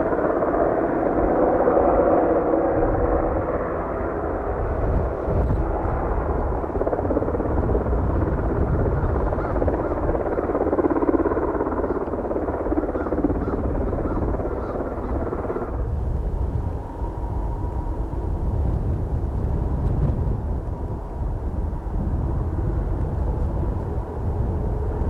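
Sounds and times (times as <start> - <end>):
aircraft engines droning: 0.0 - 25.0.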